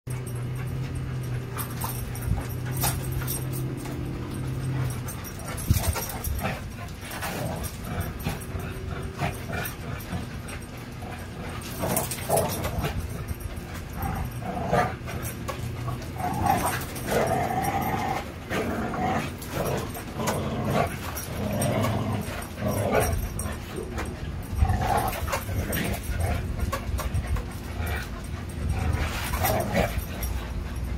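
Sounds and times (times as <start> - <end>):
dogs play vocalizing: 0.1 - 30.9
dogs scuffling: 0.2 - 30.9.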